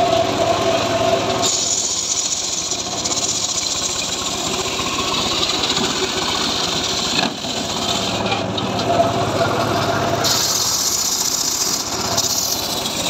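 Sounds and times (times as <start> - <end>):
circular saw cutting log: 0.0 - 9.2, 10.1 - 13.0.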